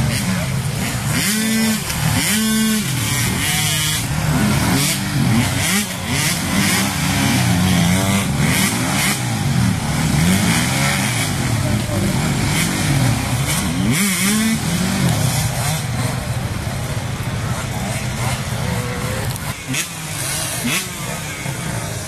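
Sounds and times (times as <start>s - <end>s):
off-road motorcycle engines revving: 0.0s - 22.0s.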